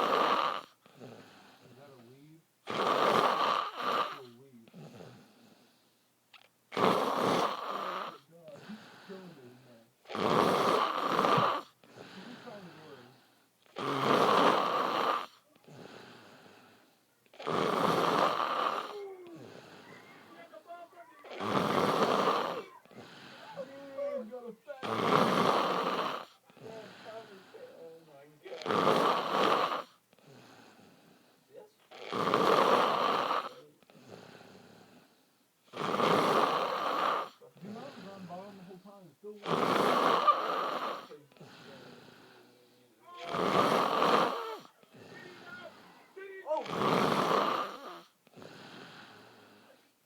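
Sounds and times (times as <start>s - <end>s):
quiet breathing: 0.0s - 2.5s, 3.3s - 50.0s
man snoring: 0.0s - 5.7s, 6.7s - 49.8s.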